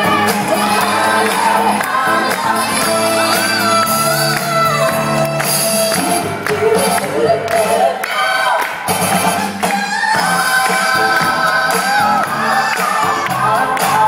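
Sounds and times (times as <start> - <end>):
pop dance music with singing: 0.0 - 14.0.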